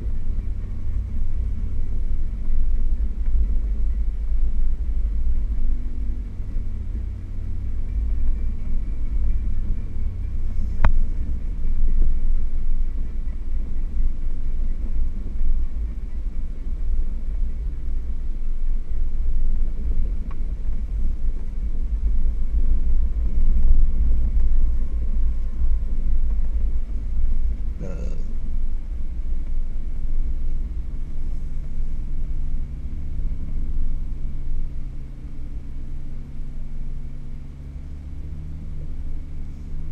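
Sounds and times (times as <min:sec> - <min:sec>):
vehicle engine low rumble: 0:00.0 - 0:39.9.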